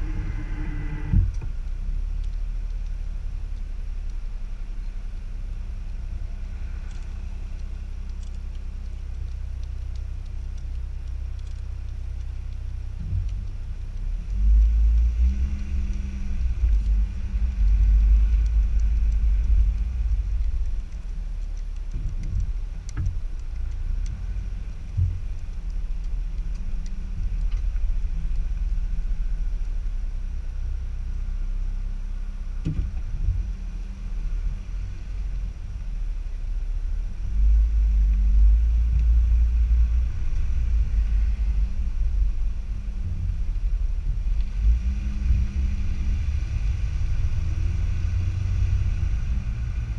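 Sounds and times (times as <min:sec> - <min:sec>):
car engine and tyres rumbling: 0:00.0 - 0:49.9.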